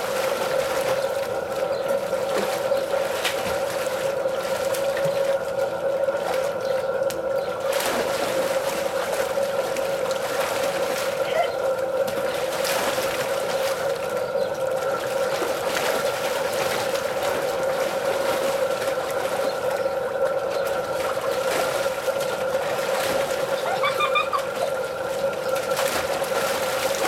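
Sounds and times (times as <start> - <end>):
steady droning hum: 0.0 - 27.0
water splashing in a pool: 0.0 - 27.0.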